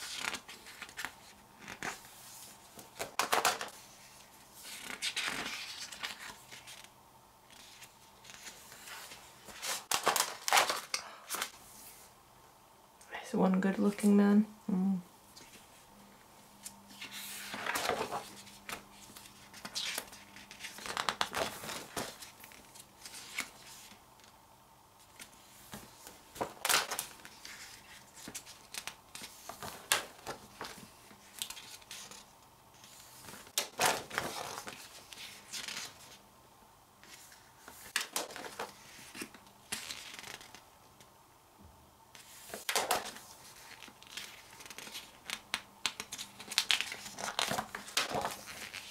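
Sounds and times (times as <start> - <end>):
book pages turning: 0.0 - 6.9, 7.5 - 12.0, 16.6 - 24.3, 25.0 - 36.2, 37.0 - 40.6, 42.1 - 48.9.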